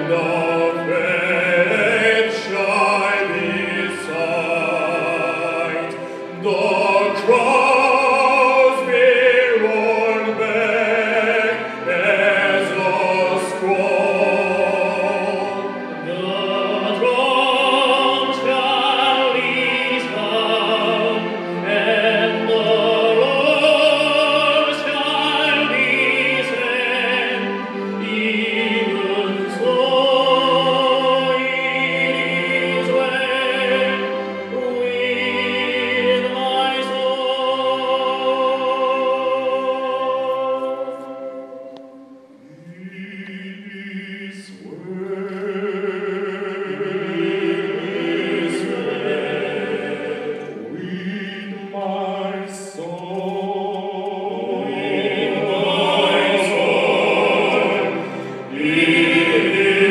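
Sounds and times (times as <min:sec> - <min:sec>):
men singing operatically: 0:00.0 - 0:41.0, 0:42.6 - 0:59.9
string orchestra: 0:00.0 - 0:59.9.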